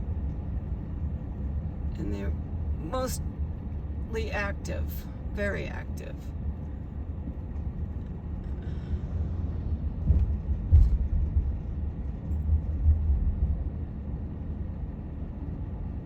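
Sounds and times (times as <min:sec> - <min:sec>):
road and engine rumble in cabin: 0:00.0 - 0:16.0.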